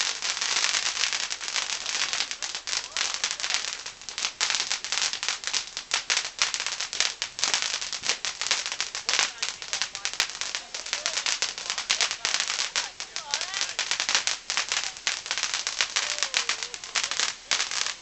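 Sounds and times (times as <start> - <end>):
firework crackling pops: 0.0 - 18.0.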